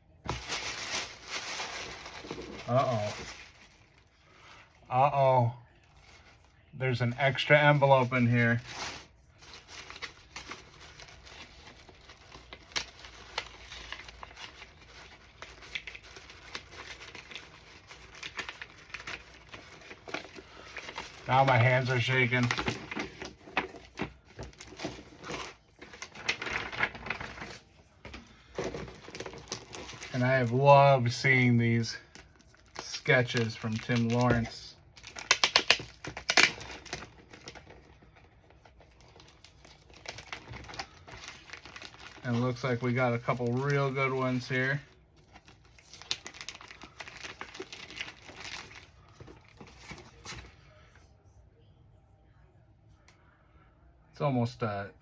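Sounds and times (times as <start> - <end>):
paper rustling and crinkling: 0.2 - 4.6, 5.7 - 50.6.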